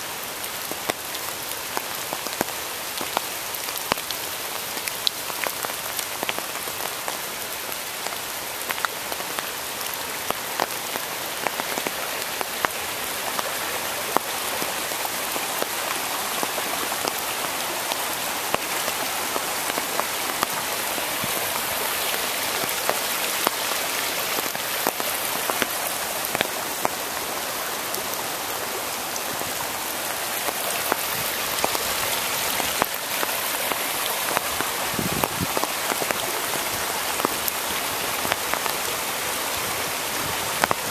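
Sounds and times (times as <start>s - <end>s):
steady rain hiss: 0.0s - 40.9s
raindrops tapping close by: 0.1s - 40.9s.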